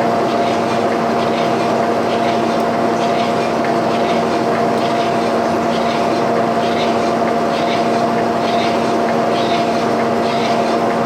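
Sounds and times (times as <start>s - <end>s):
machine humming and whirring: 0.0s - 11.0s.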